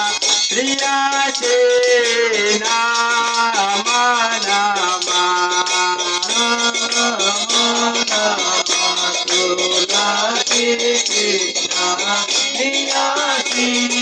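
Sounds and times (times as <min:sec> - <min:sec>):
hand cymbals jingling: 0:00.0 - 0:14.0
voices singing chant: 0:00.0 - 0:14.0.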